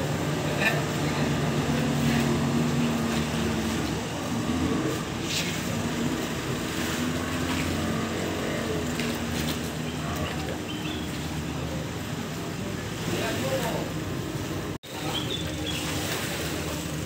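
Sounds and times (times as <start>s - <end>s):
outboard engines droning: 0.0s - 17.0s.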